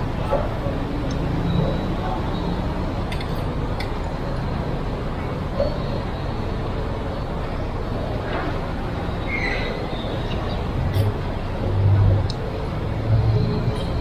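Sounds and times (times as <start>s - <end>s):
many people talking: 0.0s - 14.0s.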